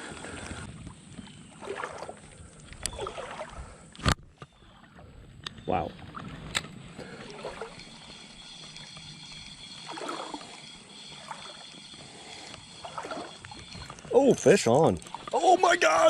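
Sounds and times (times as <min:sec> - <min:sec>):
soft water splashes: 0:00.0 - 0:03.9, 0:05.8 - 0:08.9, 0:09.8 - 0:16.0
creek water trickling: 0:00.0 - 0:16.0.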